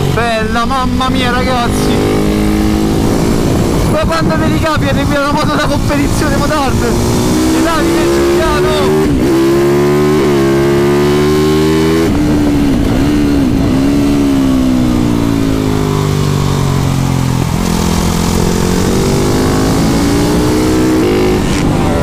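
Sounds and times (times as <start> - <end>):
motorcycle engine revving: 0.0 - 22.0
wind rushing over microphone: 0.0 - 22.0.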